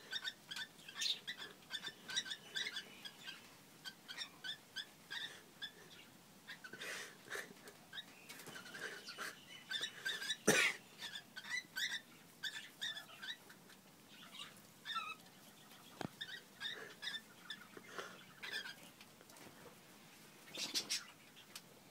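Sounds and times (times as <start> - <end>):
cockatiels chirping: 0.0 - 6.8, 7.9 - 10.4, 11.0 - 18.9, 20.5 - 21.6.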